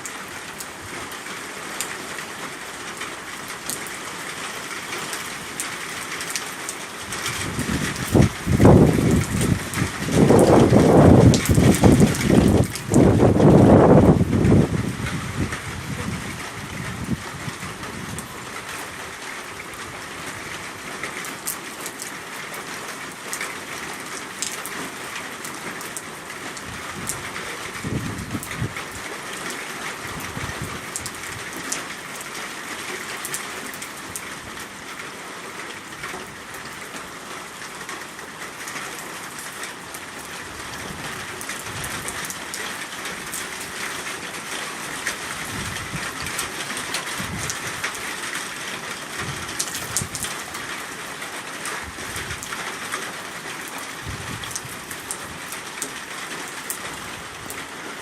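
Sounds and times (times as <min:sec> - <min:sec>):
heavy rain hissing: 0:00.0 - 0:58.0
raindrops ticking on surfaces: 0:00.0 - 0:58.0.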